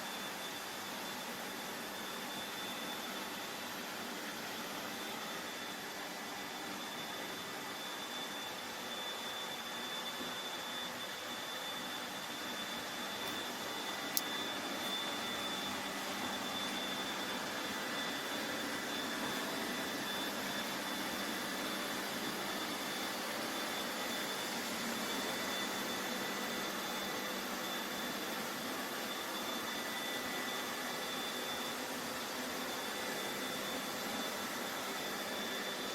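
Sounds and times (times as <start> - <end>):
robot vacuum running: 0.1 - 35.9.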